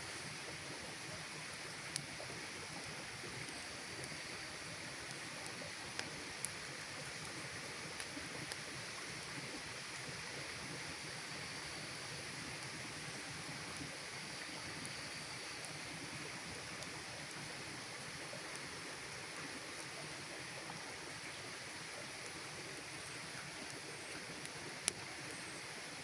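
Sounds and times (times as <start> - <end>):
campfire hiss: 0.0 - 26.0
fire crackles: 0.0 - 26.0.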